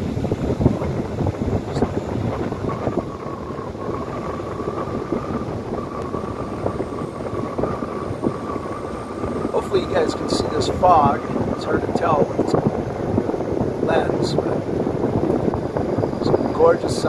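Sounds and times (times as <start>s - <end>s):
road and tyre noise: 0.0s - 17.0s
thin high whine: 0.0s - 17.0s.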